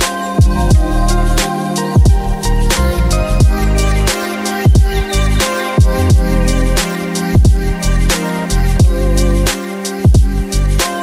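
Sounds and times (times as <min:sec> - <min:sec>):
mellow instrumental beat: 0:00.0 - 0:11.0.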